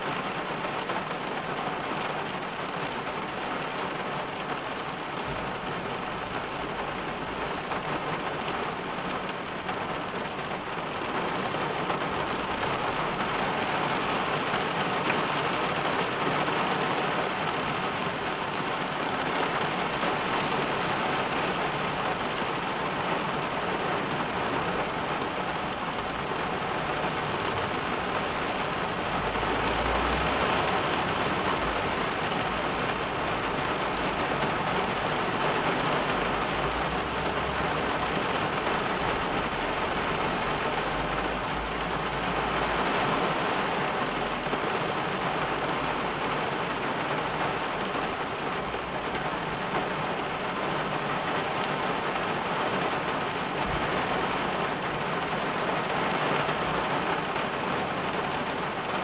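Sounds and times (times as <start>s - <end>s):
rain on car roof: 0.0s - 59.0s.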